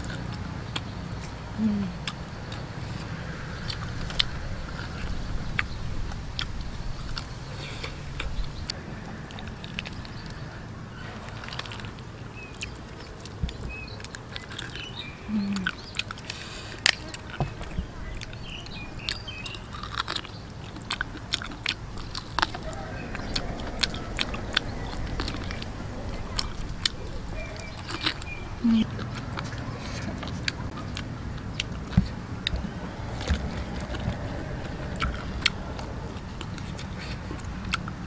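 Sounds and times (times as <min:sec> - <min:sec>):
mouth clicks and smacks: 0:00.0 - 0:10.4, 0:11.2 - 0:38.0
person chewing: 0:00.0 - 0:10.5, 0:11.1 - 0:38.0.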